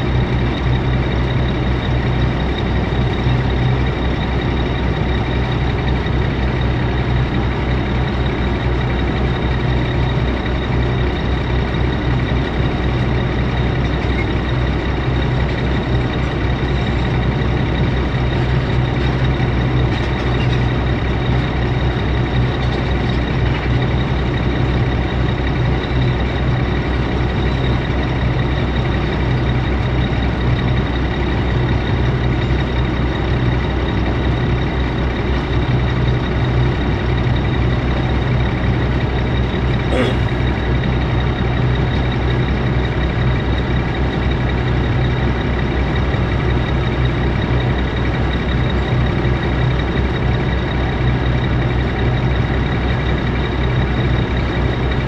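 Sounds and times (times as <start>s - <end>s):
diesel engines droning: 0.0s - 55.0s.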